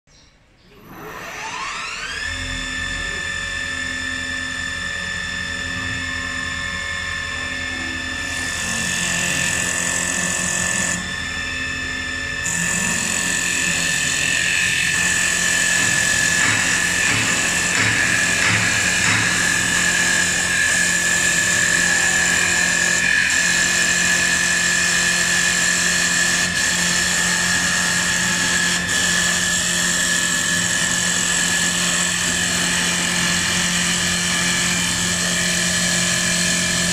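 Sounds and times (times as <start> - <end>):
tool cutting wood: 0.8 - 36.9
wood lathe high whine: 0.8 - 36.9.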